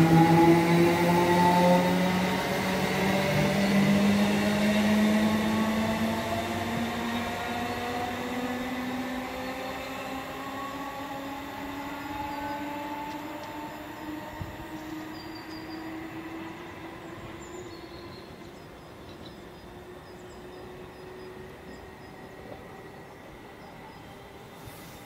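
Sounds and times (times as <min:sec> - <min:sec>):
rail rumble: 0:00.0 - 0:25.0
train traction motors whining: 0:00.0 - 0:25.0.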